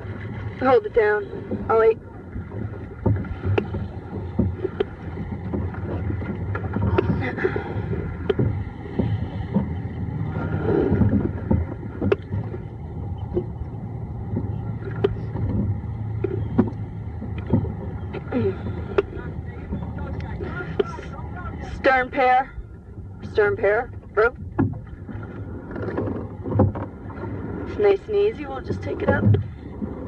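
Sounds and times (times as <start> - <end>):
low hum: 0.0 - 30.0
oars clicking in oarlocks: 0.0 - 30.0
water rushing along hull: 0.0 - 30.0.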